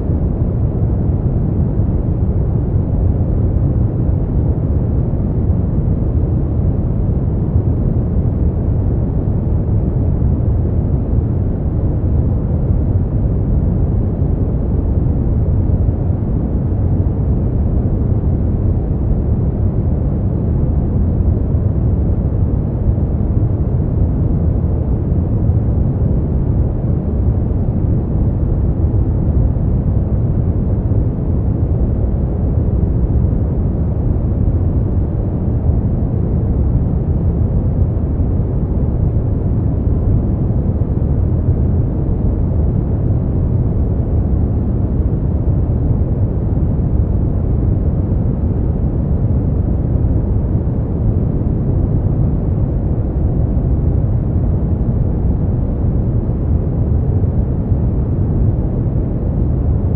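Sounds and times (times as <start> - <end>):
brown noise rumbling hiss: 0.0 - 59.9.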